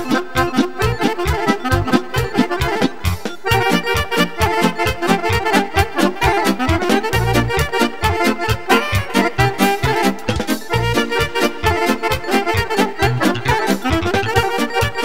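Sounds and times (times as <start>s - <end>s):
accordion: 0.0s - 15.0s
alto saxophone: 0.0s - 15.0s
steady drum beat: 0.0s - 15.0s.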